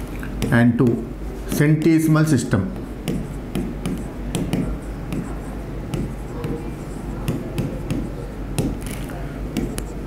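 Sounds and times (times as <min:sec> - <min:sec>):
steady low hum: 0:00.0 - 0:10.0
marker pen writing on whiteboard: 0:00.2 - 0:10.0.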